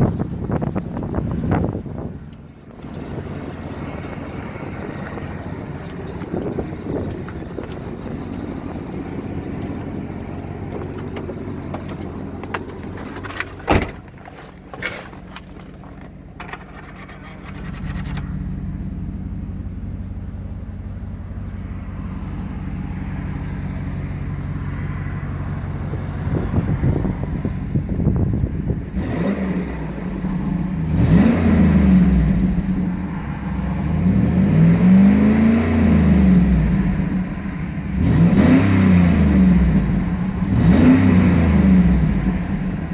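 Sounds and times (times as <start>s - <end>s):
truck engine idling and revving: 0.0s - 42.9s.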